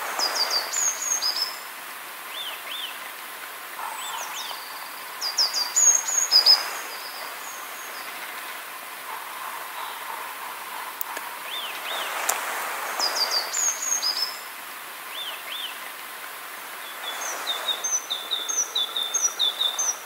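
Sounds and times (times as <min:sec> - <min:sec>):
small songbirds singing: 0:00.1 - 0:01.7, 0:02.3 - 0:03.1, 0:03.7 - 0:08.7, 0:09.7 - 0:15.8, 0:16.7 - 0:20.0.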